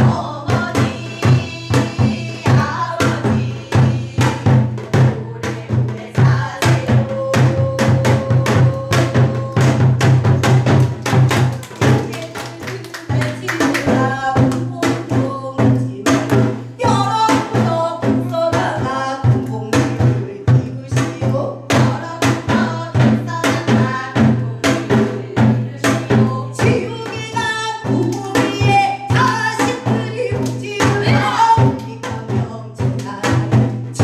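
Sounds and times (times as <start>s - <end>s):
steady drum beat: 0.0s - 34.0s
woman singing: 0.0s - 34.0s.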